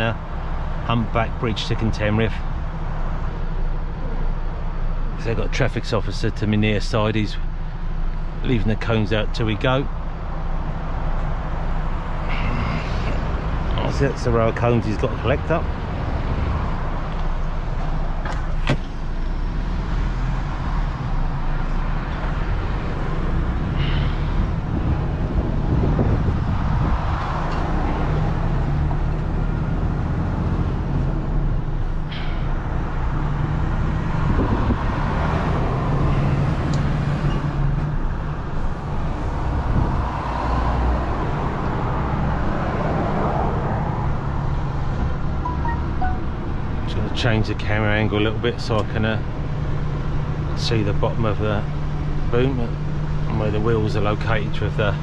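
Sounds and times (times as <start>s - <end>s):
truck diesel engine droning: 0.0s - 55.0s.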